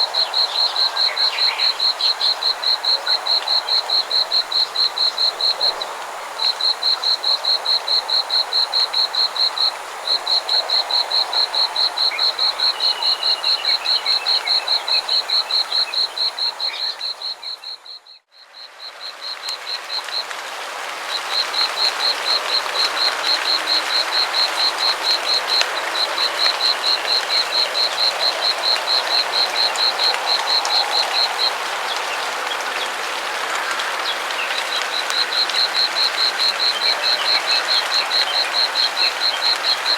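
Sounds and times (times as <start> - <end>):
distant frog chorus: 0.0 - 39.9.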